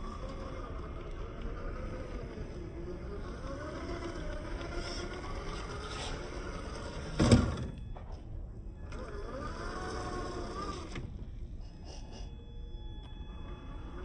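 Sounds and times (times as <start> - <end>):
toy car motor whining: 0.0 - 7.5, 8.8 - 11.1, 11.8 - 14.0.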